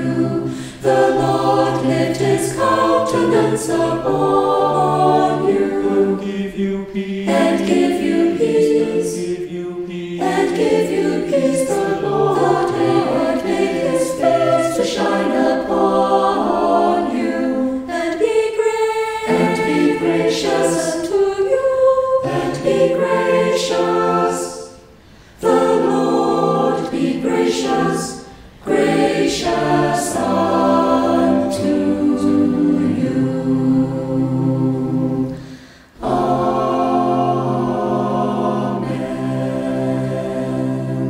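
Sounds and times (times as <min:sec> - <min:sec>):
choir singing a hymn: 0:00.0 - 0:41.0.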